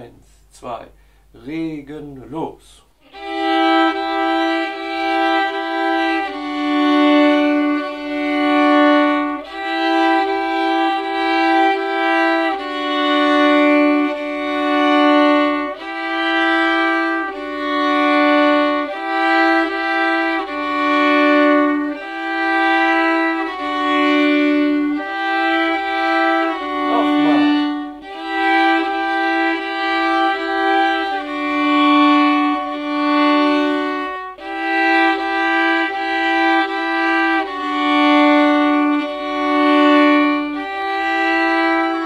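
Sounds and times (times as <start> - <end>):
two violins bowed together: 3.0 - 42.0.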